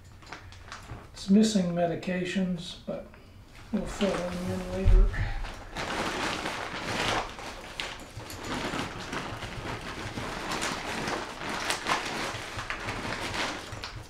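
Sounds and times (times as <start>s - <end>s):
food bag crinkling: 0.0s - 1.2s, 3.8s - 14.0s.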